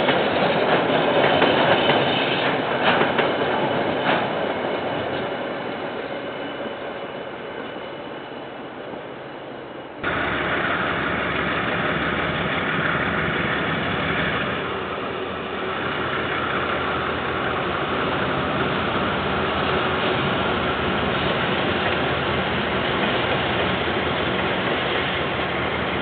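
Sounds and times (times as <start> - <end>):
train engine and rail noise: 0.0 - 26.0
train passing: 0.0 - 26.0.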